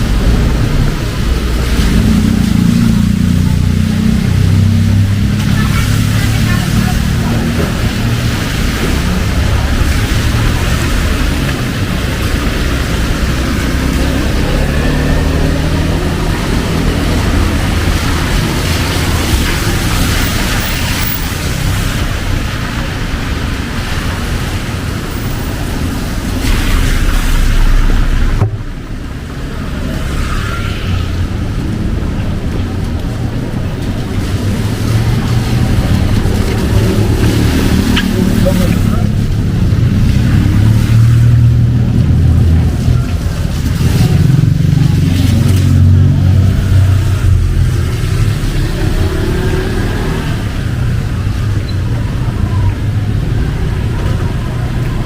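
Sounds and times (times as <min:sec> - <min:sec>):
heavy rain pouring: 0:00.0 - 0:55.0
vehicle engines in traffic: 0:00.0 - 0:55.0.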